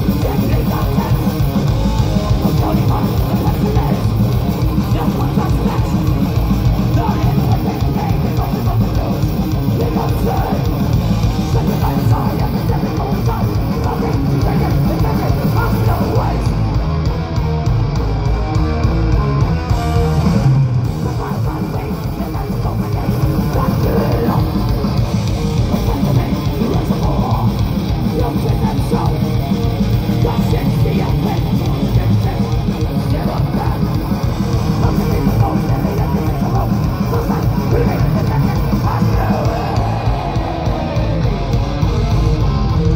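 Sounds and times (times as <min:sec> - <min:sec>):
bass guitar: 0:00.0 - 0:42.9
distorted electric guitars: 0:00.0 - 0:42.9
pounding drum kit: 0:00.0 - 0:42.9.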